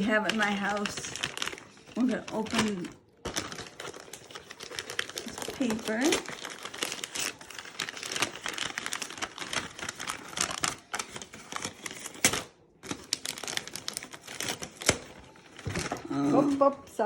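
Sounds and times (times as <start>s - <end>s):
wrapping paper tearing and crumpling: 0.0s - 16.8s.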